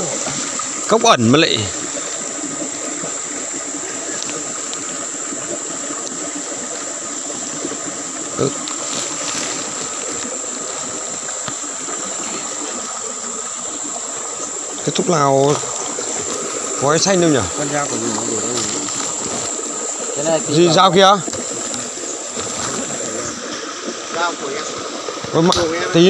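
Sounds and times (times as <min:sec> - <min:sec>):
stream running: 0:00.0 - 0:26.0.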